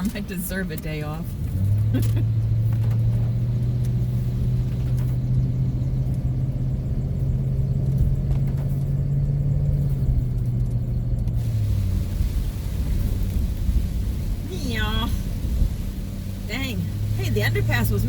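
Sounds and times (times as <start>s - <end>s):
van engine and road noise: 0.0s - 18.0s.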